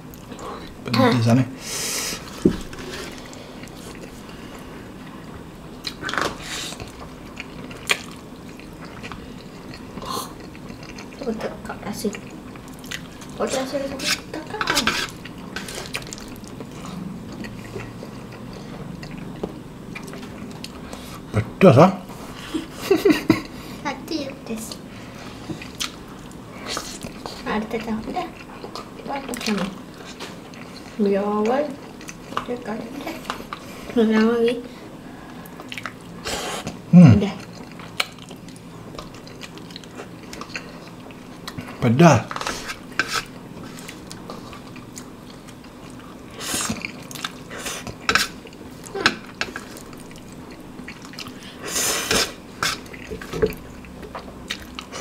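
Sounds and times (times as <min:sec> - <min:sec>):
people chewing food: 0:00.0 - 0:55.0.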